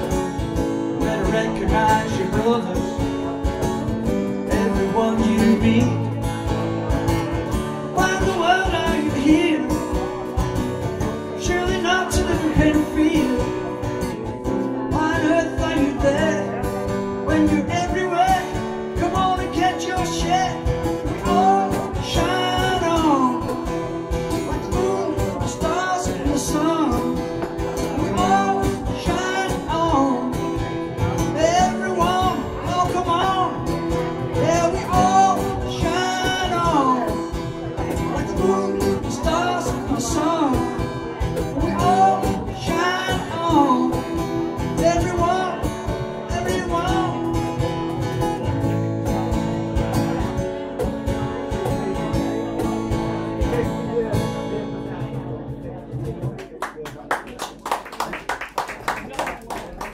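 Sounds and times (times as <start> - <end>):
man singing: 0.0 - 55.0
strummed acoustic guitar: 0.0 - 56.6.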